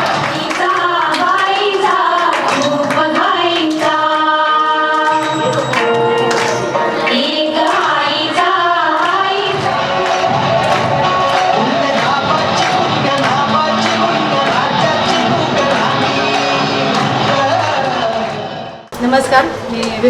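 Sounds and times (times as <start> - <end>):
song with singing over a beat: 0.0 - 18.8.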